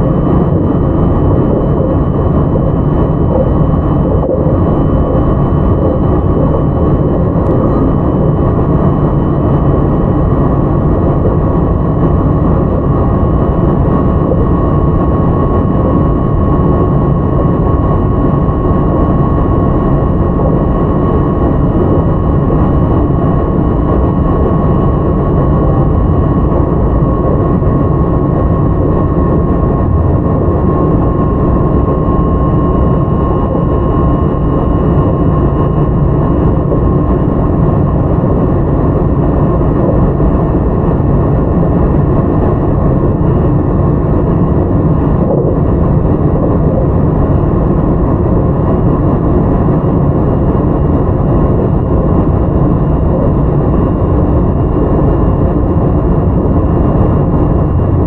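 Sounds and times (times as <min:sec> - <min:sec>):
thin motor whine: 0:00.0 - 0:58.0.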